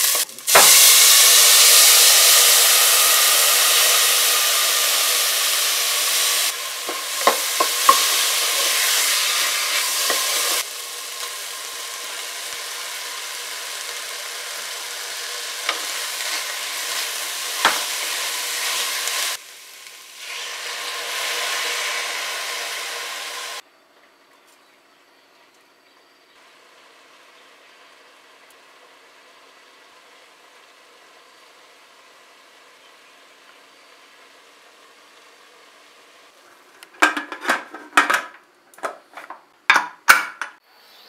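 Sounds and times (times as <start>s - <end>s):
food sizzling in oil: 0.0s - 23.6s, 26.4s - 36.4s.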